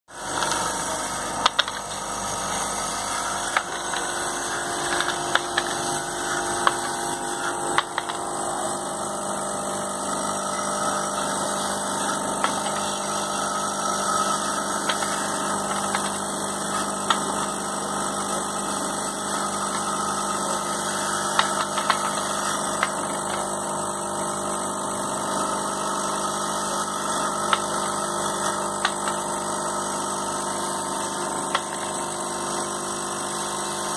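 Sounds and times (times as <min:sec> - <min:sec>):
electromagnetic hum: 0:00.1 - 0:33.9.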